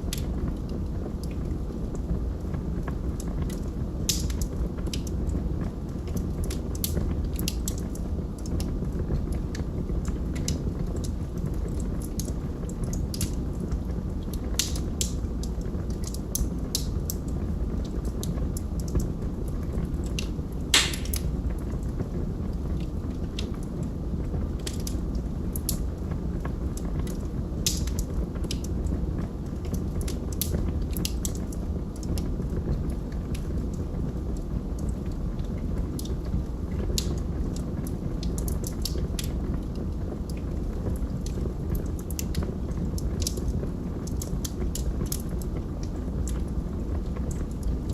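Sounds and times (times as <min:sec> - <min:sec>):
log fire crackling and popping: 0:00.0 - 0:47.9.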